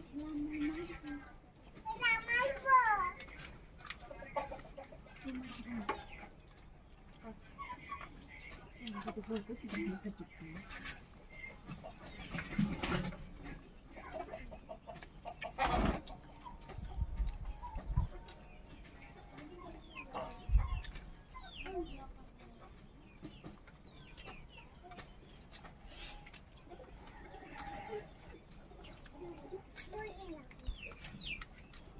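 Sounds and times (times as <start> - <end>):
birds chirping and clucking: 0.0 - 31.9.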